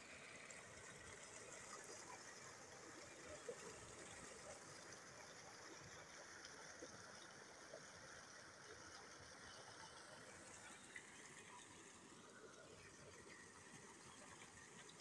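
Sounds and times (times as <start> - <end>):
water rushing over a weir: 0.0 - 15.0.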